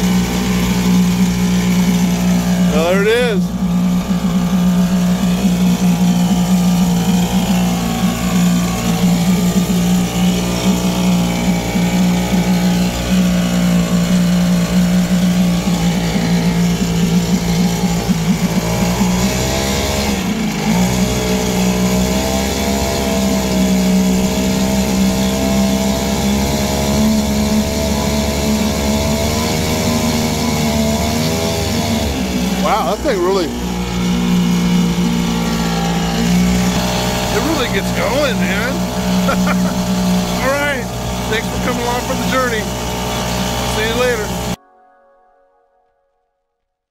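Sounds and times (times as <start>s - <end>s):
outboard motor running: 0.0s - 44.6s
propeller churning water: 0.0s - 44.6s.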